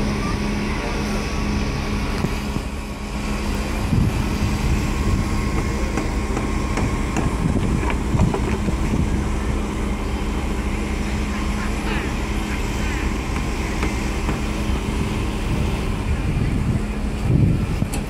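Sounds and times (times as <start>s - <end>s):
continuous low rumble: 0.0s - 18.0s
low mechanical hum: 0.0s - 18.0s.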